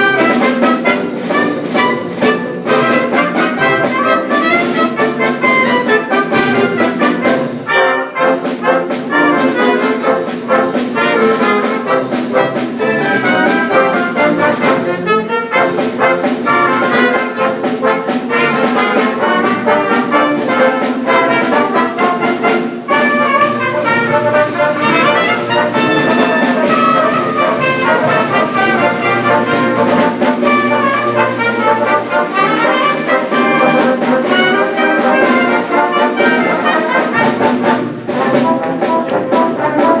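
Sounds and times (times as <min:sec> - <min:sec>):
brass band playing: 0:00.0 - 0:40.0.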